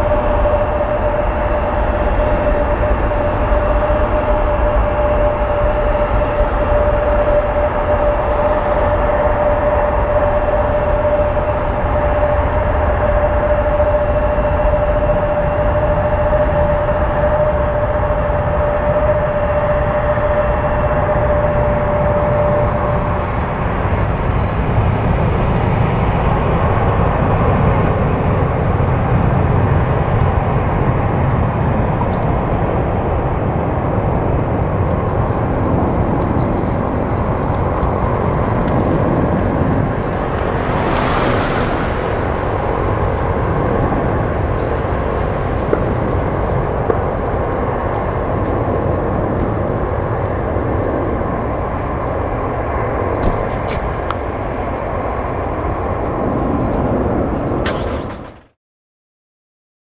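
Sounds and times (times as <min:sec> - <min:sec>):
jet engine roar: 0:00.0 - 0:58.4.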